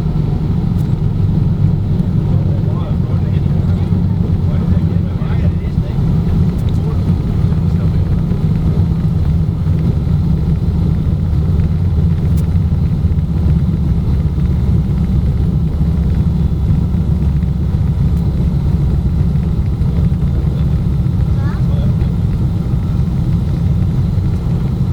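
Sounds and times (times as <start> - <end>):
aircraft engines droning: 0.0 - 24.9.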